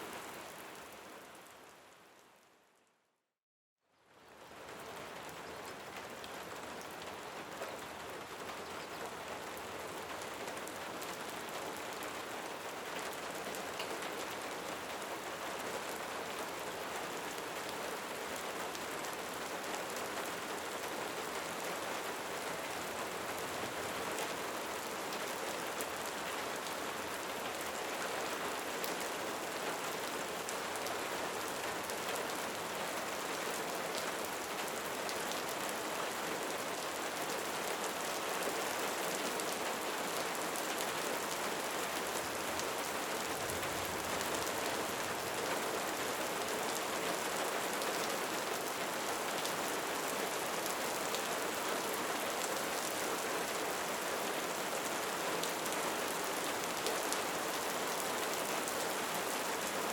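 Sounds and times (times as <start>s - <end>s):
steady rain falling: 0.0s - 2.9s, 4.0s - 59.9s.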